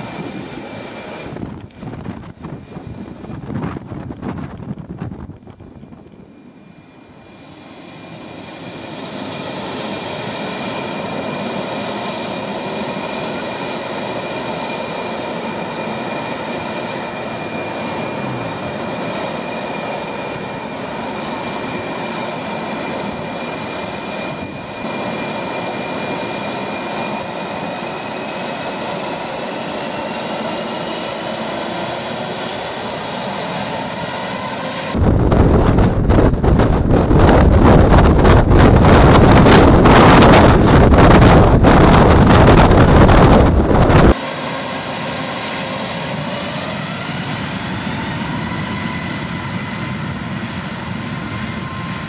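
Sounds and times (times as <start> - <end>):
jet engines whining: 0.0 - 52.0.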